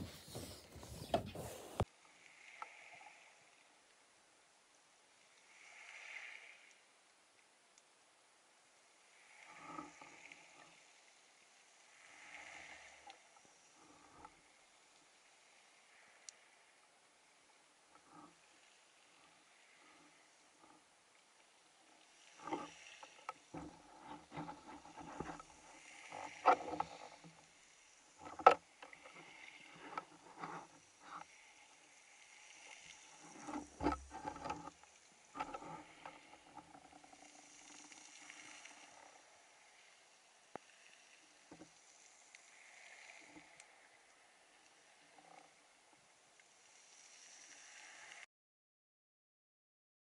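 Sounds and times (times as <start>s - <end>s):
faint water hiss: 0.0s - 48.3s.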